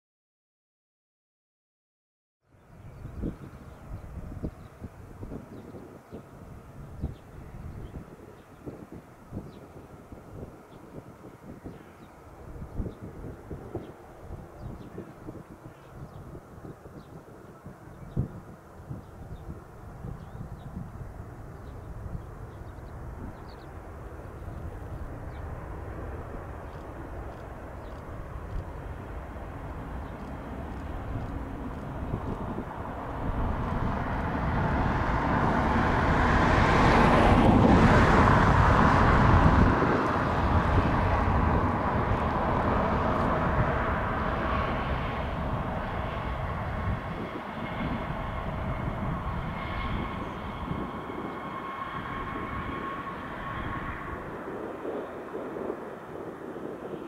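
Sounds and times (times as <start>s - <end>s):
jet plane landing: 2.6s - 57.0s.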